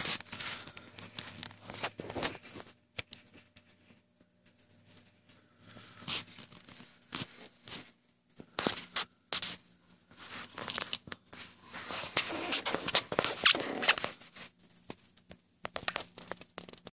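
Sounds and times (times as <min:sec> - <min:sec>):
faint low hum: 0:00.0 - 0:16.9
rustling and scraping handling noise: 0:00.0 - 0:16.9.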